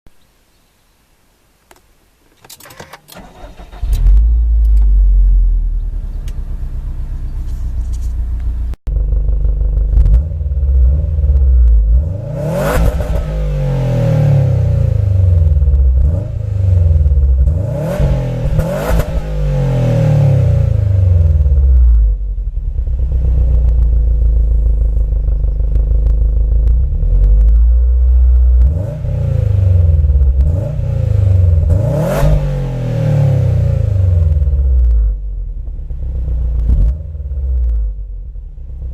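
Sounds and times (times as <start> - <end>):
car engine starting and idling: 2.4 - 38.9
engine revving: 3.2 - 7.2, 8.4 - 35.2, 36.0 - 38.0.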